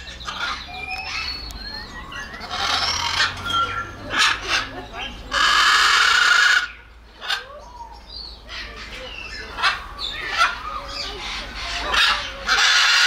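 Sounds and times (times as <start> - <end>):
macaw screeching: 0.0 - 7.6, 8.5 - 13.0
bird squawks and chirps: 0.0 - 13.0.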